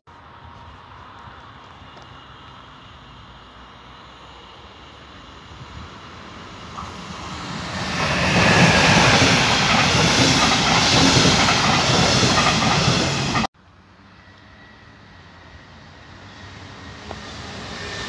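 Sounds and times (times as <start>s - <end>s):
train passing on rails: 0.1s - 18.0s.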